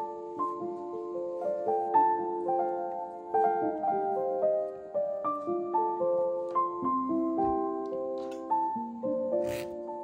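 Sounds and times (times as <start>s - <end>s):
piano-like melody: 0.0s - 10.0s.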